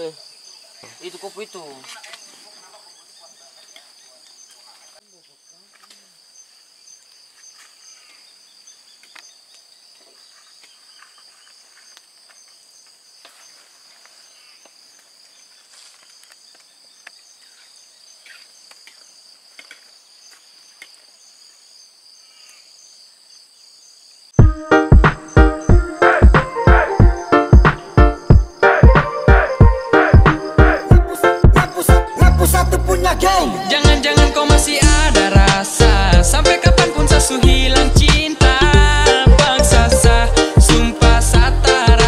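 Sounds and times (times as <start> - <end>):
insects ringing: 0.0 - 42.0.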